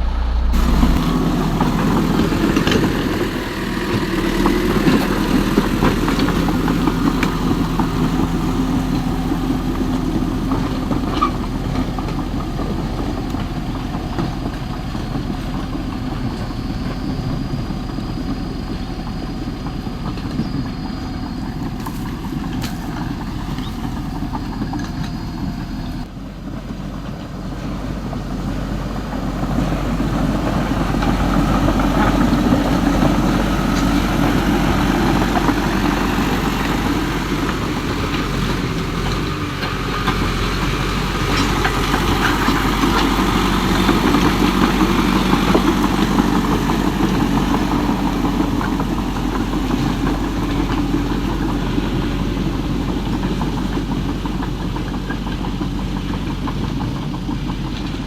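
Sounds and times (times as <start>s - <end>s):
construction machinery engine rumble: 0.0s - 58.0s.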